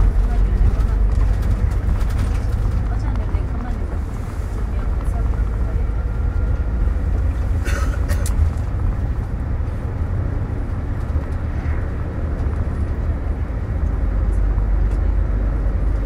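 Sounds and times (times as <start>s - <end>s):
coach engine and road rumble: 0.0s - 16.0s.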